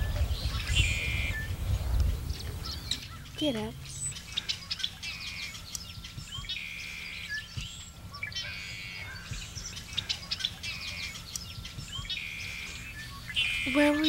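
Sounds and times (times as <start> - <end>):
low steady hum: 0.0 - 14.0
songbirds singing: 0.0 - 14.0.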